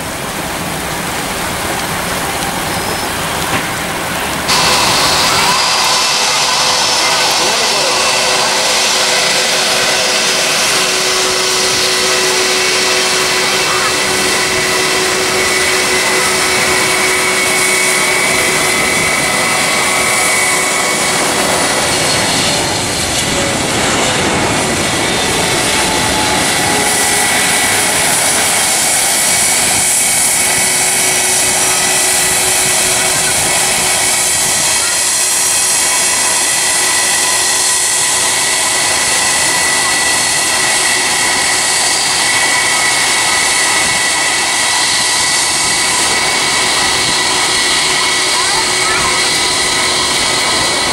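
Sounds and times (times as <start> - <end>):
jet airliner passing overhead: 0.0 - 50.9.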